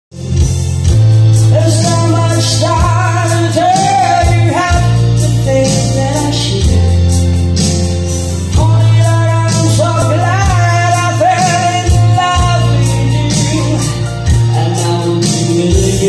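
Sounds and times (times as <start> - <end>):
person singing melody: 0.1 - 16.0
soft-rock ballad on stereo: 0.1 - 16.0.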